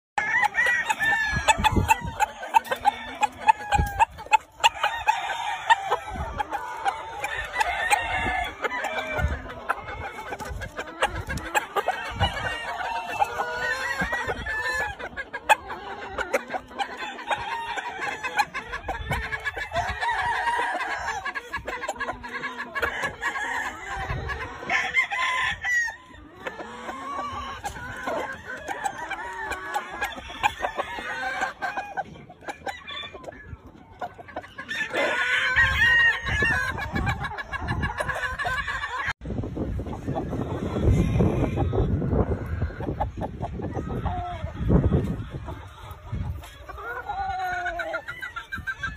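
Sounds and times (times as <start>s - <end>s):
roosters crowing: 0.2s - 39.2s, 40.0s - 48.9s
hens clucking: 0.2s - 48.9s.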